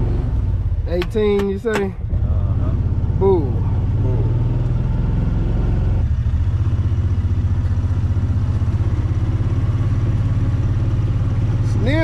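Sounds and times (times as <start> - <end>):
vehicle engine idling: 0.0 - 4.7, 6.0 - 12.0.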